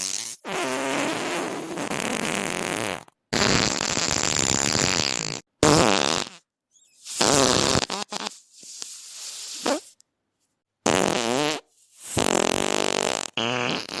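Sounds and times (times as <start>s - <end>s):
farts: 0.0s - 6.4s, 7.0s - 10.0s, 10.8s - 14.0s.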